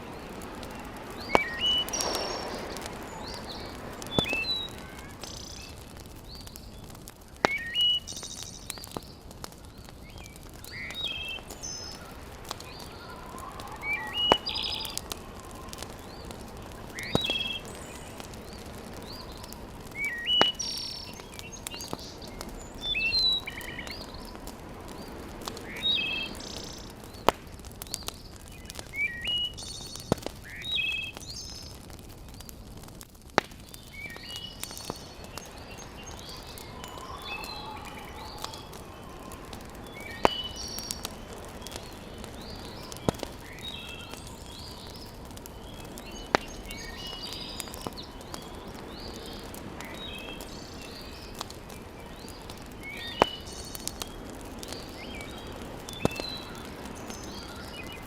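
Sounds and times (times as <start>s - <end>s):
birds chirping: 0.0s - 58.0s
wood fire crackling: 0.0s - 58.0s.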